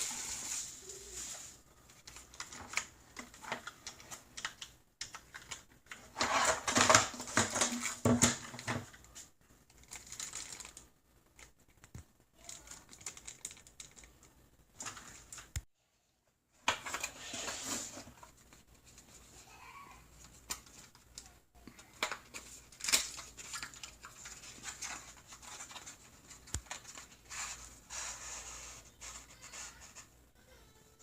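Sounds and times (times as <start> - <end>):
objects being handled: 0.0 - 15.7, 16.5 - 30.2.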